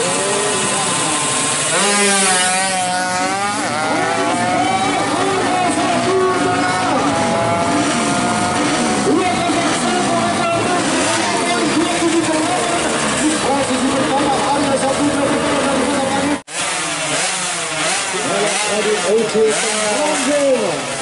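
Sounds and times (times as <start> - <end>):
motorcycle engine racing: 0.0 - 21.0.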